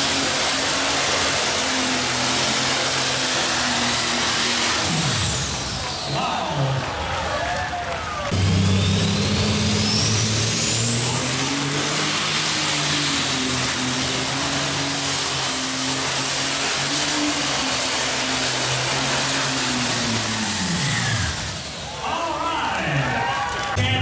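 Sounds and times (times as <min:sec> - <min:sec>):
high engine whine: 0:00.0 - 0:24.0
tractor engine running flat out: 0:00.0 - 0:24.0.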